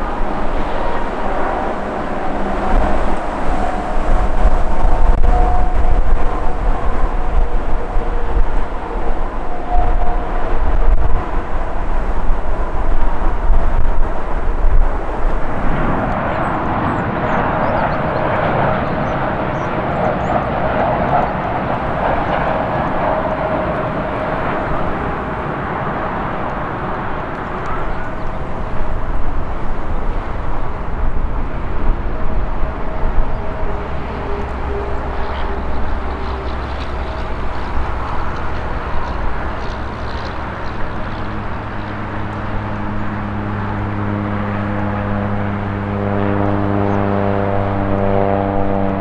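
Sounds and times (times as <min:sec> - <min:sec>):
engine whine: 0:00.0 - 0:49.0
jet airliner passing low: 0:00.0 - 0:49.0
wind buffeting microphone: 0:00.0 - 0:49.0.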